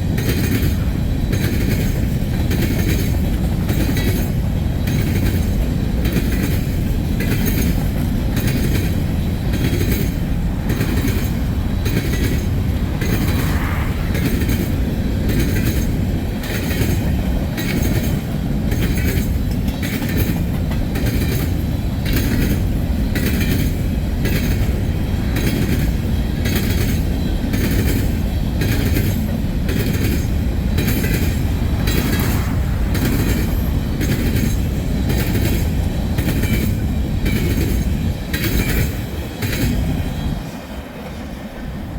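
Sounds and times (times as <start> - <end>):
freight cars rumbling: 0.0 - 41.9
wheels clicking over rail joints: 0.0 - 41.9.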